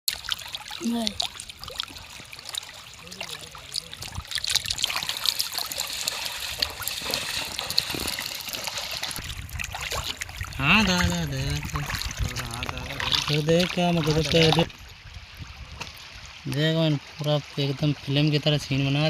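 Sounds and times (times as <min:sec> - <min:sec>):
river water lapping and trickling: 0:00.0 - 0:19.0.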